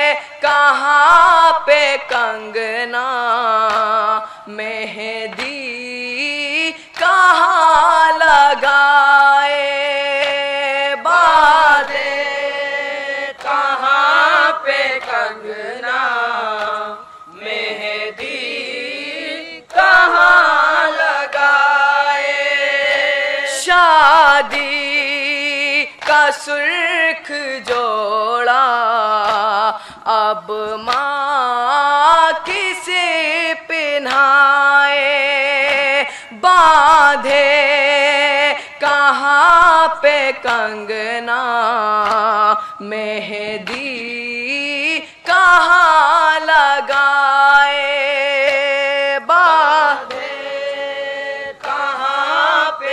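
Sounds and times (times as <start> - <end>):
young men chanting a lament: 0.0 - 31.0, 31.8 - 52.9.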